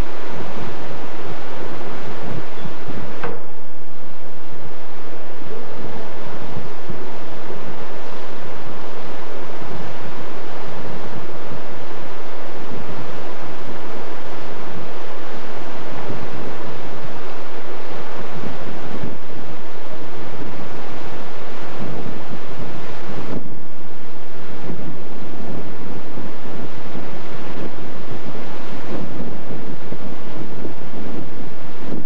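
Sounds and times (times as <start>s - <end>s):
strong wind buffeting microphone: 0.0s - 32.0s.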